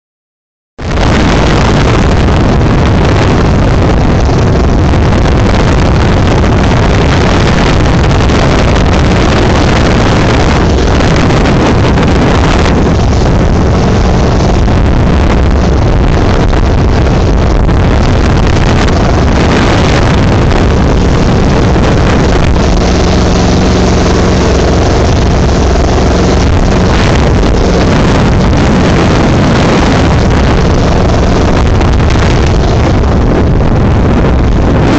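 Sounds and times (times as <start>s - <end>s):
boat engine drone: 0.8s - 34.9s
rush of spray: 0.8s - 34.9s
wind buffeting microphone: 0.8s - 34.9s.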